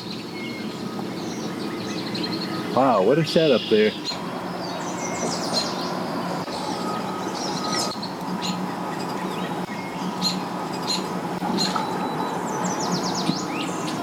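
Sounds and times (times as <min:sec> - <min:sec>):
low motor hum: 0:00.0 - 0:14.0
small birds chirping: 0:00.0 - 0:14.0.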